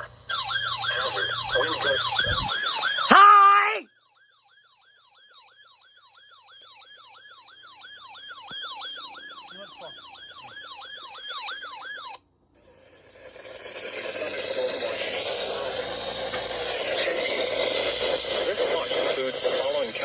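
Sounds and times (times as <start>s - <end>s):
electronic siren yelping: 0.0s - 20.0s.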